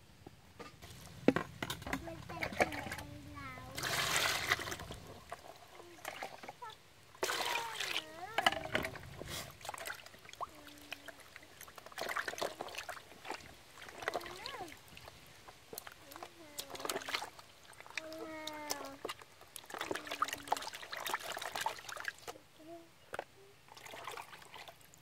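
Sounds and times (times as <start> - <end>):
water sloshing as eels are washed: 0.8 - 22.5, 23.7 - 25.0
water splashing into basin: 2.2 - 22.4, 23.7 - 25.0.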